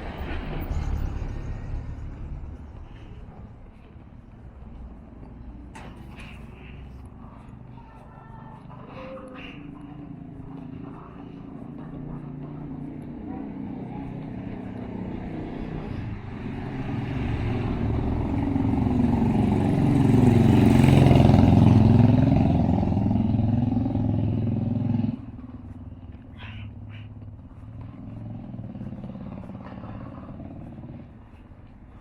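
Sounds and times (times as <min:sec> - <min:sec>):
vehicle engine passing by: 0:00.0 - 0:32.0.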